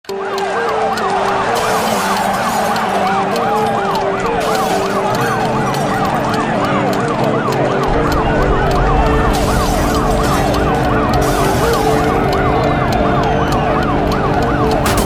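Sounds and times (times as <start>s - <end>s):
music with held notes: 0.1s - 15.0s
police sirens wailing: 0.1s - 15.0s.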